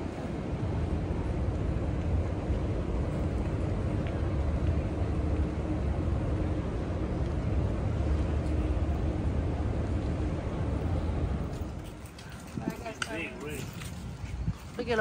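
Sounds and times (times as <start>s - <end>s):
outdoor low rumble: 0.0s - 15.0s.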